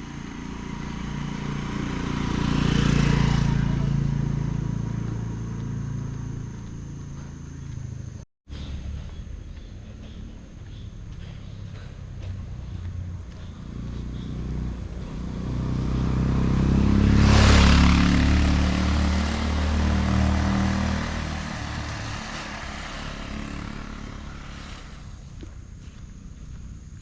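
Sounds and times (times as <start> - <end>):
vehicle engine passing by: 0.0 - 27.0.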